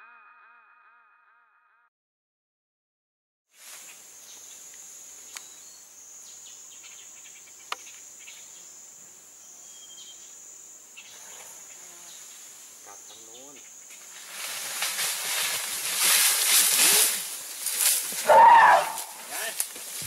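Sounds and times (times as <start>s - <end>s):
insects droning: 3.6s - 20.0s.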